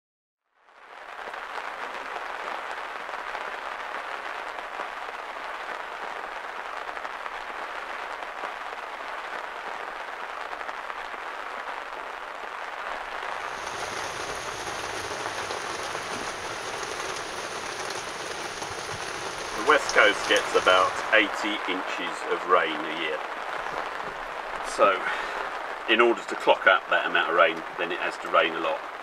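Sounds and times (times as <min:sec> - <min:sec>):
heavy rain: 0:00.6 - 0:29.0.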